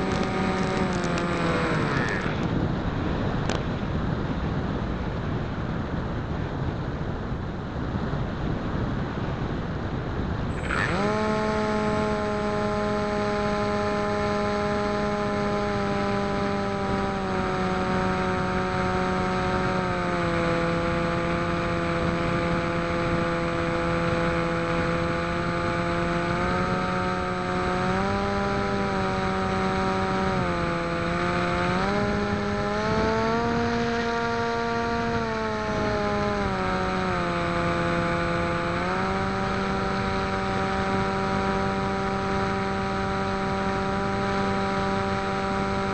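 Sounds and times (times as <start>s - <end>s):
electric motor propeller whine: 0.0s - 3.6s, 10.5s - 45.9s
wind rushing over microphone: 0.0s - 45.9s.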